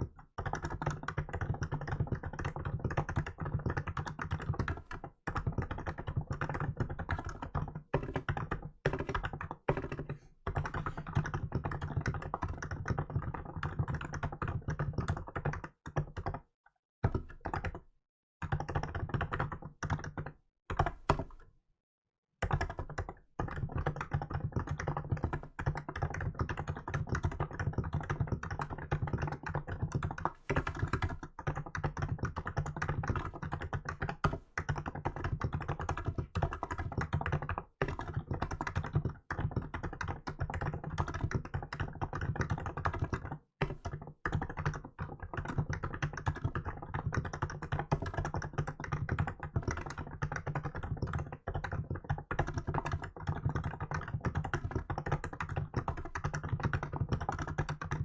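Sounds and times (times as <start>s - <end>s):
fast keyboard typing: 0.0s - 17.8s, 18.4s - 21.5s, 22.4s - 58.0s.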